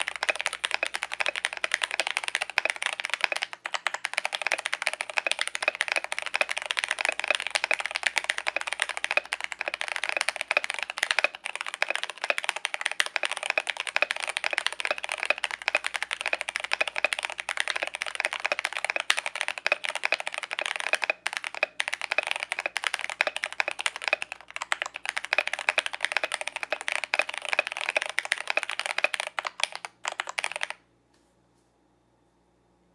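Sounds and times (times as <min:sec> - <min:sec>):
mechanical keyboard typing: 0:00.0 - 0:30.8.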